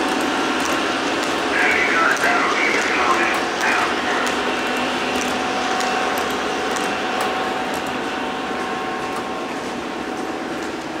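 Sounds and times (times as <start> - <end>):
model train rolling rumble: 0.0 - 11.0.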